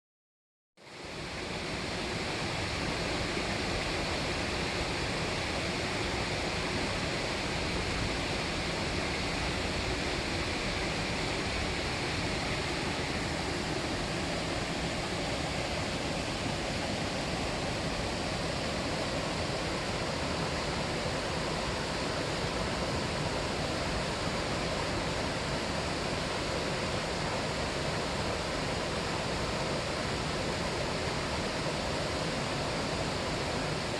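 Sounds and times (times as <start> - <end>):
mountain water rushing: 0.9 - 33.9.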